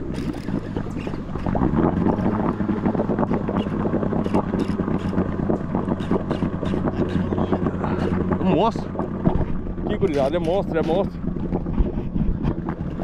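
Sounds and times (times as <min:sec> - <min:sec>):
outboard motor running: 0:00.0 - 0:13.0
wind buffeting microphone: 0:00.0 - 0:13.0.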